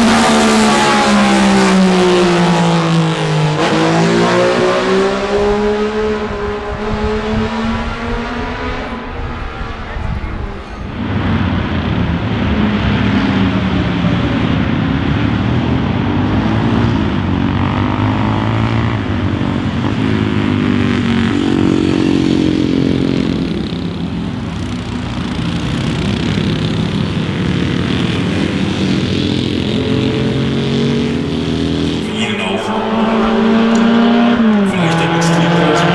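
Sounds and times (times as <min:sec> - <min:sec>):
racing car engine revving: 0:00.0 - 0:35.9.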